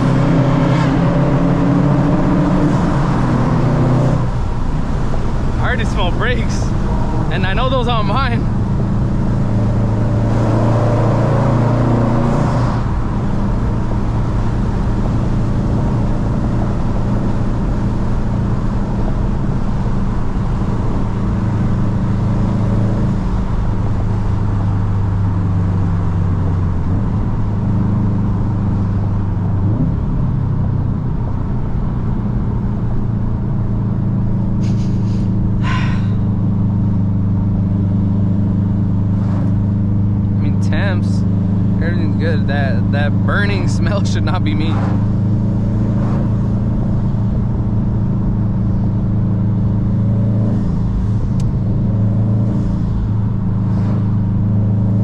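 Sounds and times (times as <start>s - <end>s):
car engine running: 0.0s - 55.0s
road noise: 0.0s - 55.0s.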